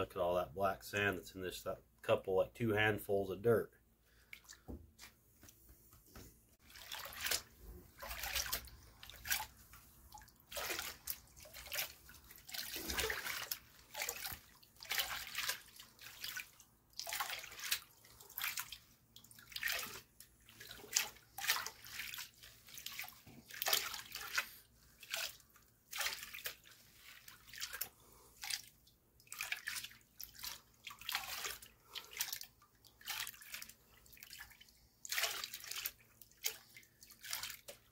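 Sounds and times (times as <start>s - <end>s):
water sloshing in a pan: 6.6s - 37.9s.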